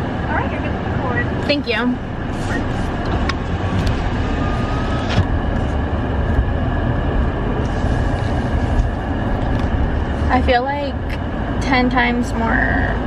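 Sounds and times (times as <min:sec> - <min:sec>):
car engine rumble from cabin: 0:00.0 - 0:13.0.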